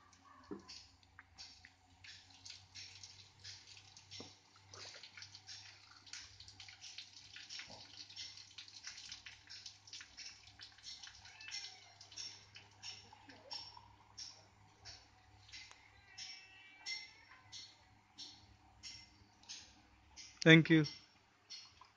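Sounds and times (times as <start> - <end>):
liquid trickling and dripping: 0.0 - 21.9.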